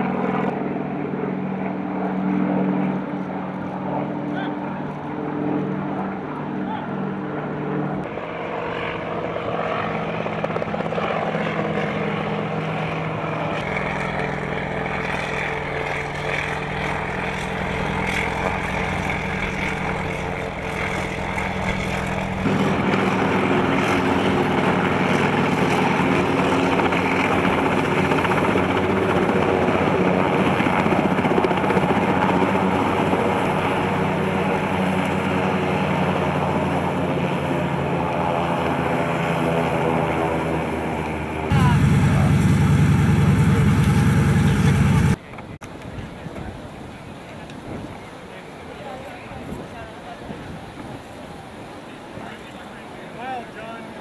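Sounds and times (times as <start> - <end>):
helicopter engine and rotor: 0.0 - 45.2.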